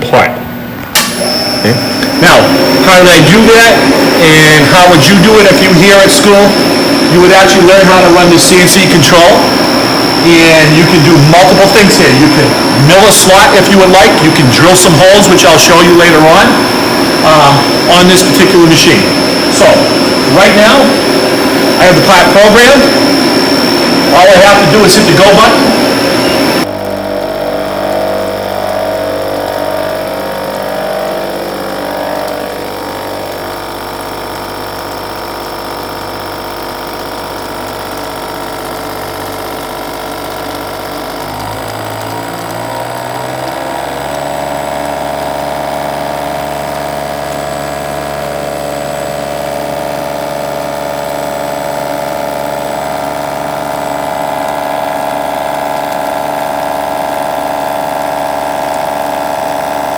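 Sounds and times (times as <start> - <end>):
milling machine hum: 0.9 - 59.9.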